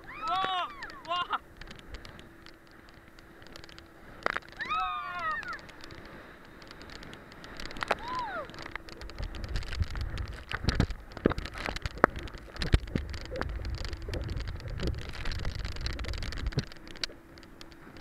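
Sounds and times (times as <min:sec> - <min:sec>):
low rumble of wind and water: 0:00.0 - 0:18.0
water splashing and spraying: 0:00.0 - 0:18.0.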